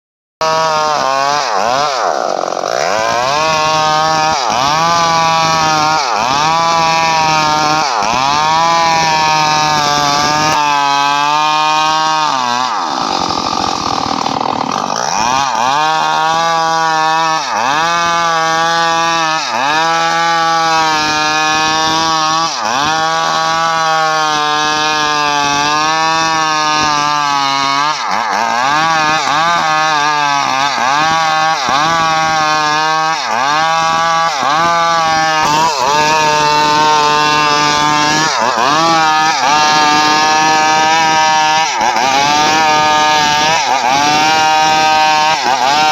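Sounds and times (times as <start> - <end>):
chainsaw cutting wood: 0.4 - 45.9.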